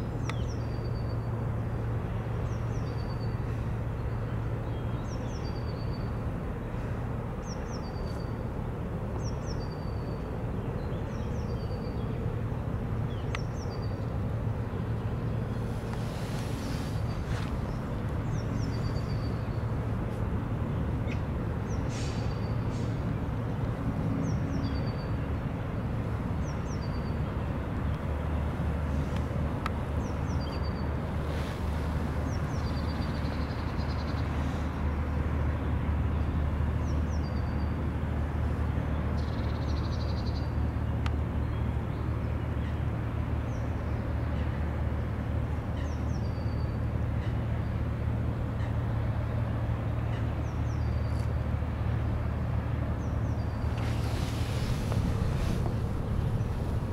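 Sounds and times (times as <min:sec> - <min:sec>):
cargo ship engine drone: 0:00.0 - 0:56.9.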